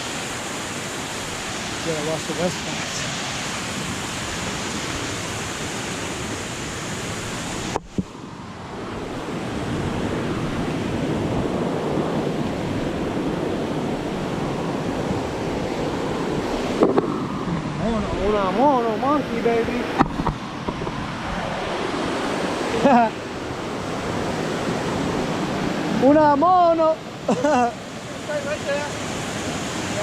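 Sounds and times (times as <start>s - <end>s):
waterfall and river rushing: 0.0s - 30.0s
wind on microphone: 0.0s - 30.0s.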